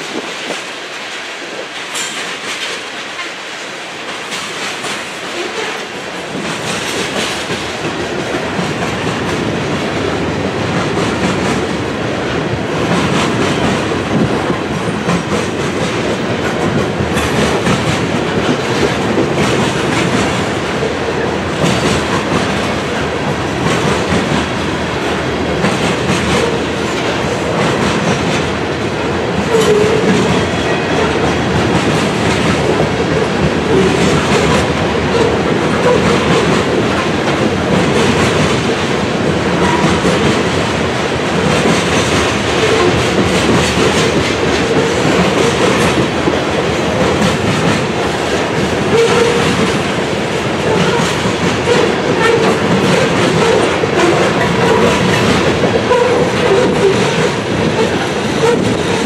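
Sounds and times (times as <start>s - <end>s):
train rumble: 0.0s - 59.0s
train wheels clicking over rail joints: 0.0s - 59.0s.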